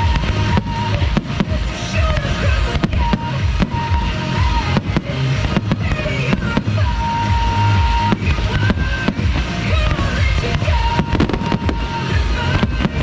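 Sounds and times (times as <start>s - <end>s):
fireworks bangs and crackles: 0.0s - 13.0s
loud music with pulsing bass: 0.0s - 13.0s.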